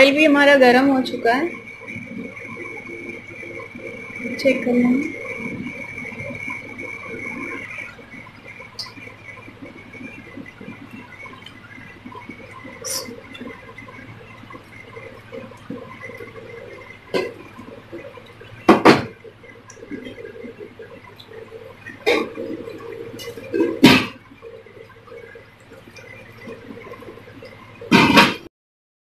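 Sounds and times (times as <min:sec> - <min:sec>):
batter deep-frying in hot oil: 0:00.0 - 0:28.5.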